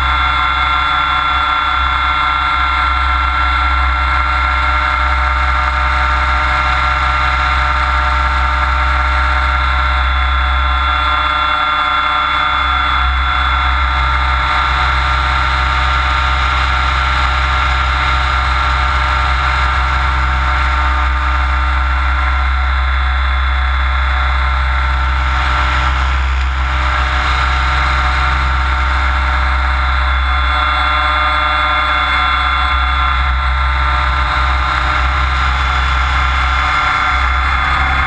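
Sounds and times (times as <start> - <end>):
rc helicopter whine: 0.0 - 38.0
rotor blades rushing: 7.2 - 38.0.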